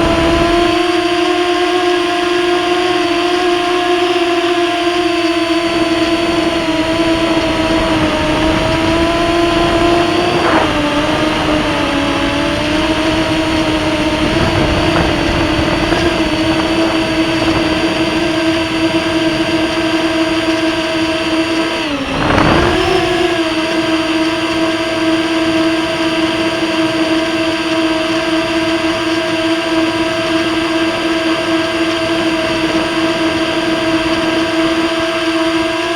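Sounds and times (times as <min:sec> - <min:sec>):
drone propellers buzzing whine: 0:00.0 - 0:35.9.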